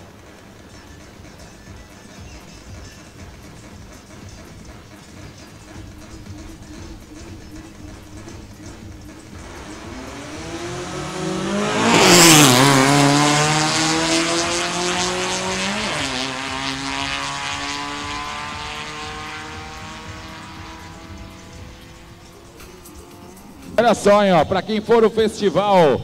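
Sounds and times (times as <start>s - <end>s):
race car engines at full throttle: 0.0s - 25.2s.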